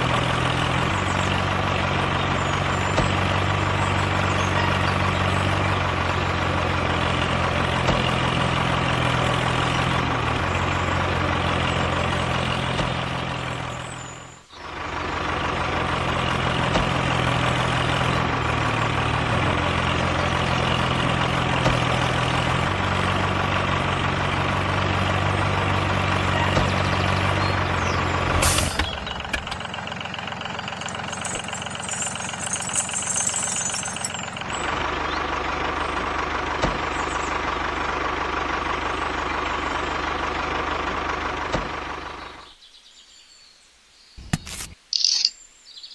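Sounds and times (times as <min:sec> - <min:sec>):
engine running with low hum: 0:00.0 - 0:43.3.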